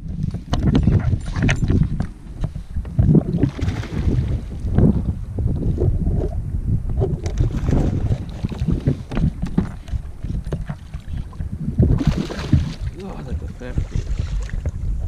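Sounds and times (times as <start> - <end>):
water lapping against hull: 0.0 - 15.0
wind buffeting microphone: 0.0 - 15.0.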